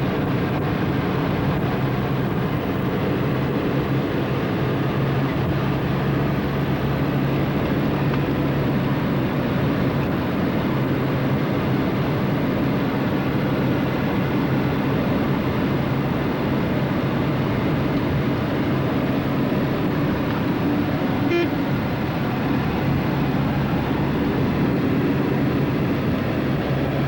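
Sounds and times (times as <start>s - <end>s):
car engine hum: 0.0s - 27.0s
road noise inside car: 0.0s - 27.0s.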